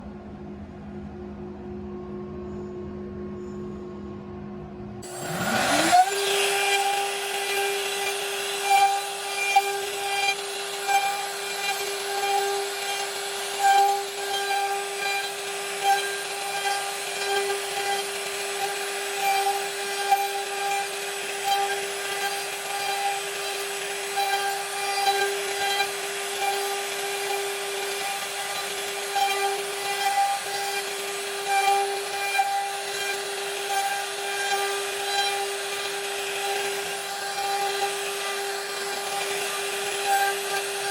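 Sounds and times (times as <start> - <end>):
bit cutting into wood: 5.0 - 40.9
router spindle whining: 5.0 - 40.9.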